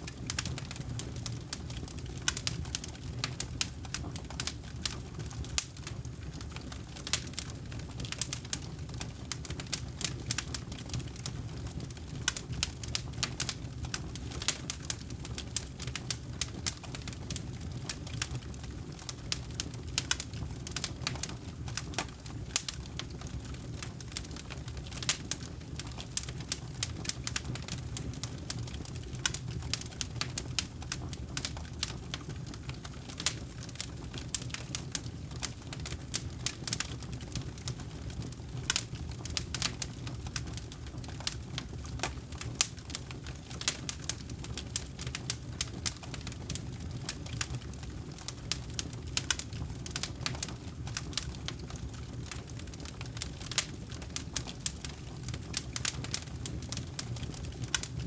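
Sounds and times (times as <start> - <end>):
low rumble of flames: 0.0 - 58.0
wood crackling and popping: 0.0 - 58.0.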